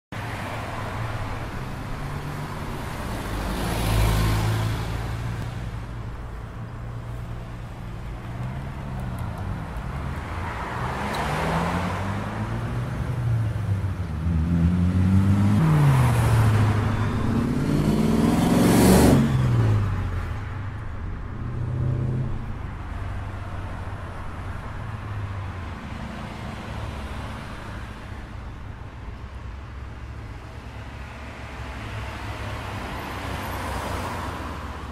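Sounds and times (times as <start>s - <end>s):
vehicles passing by: 0.1s - 34.9s.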